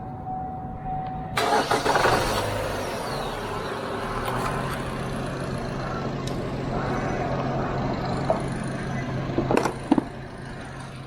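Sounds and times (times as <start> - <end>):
car engine cranking and idling: 1.3 - 11.0.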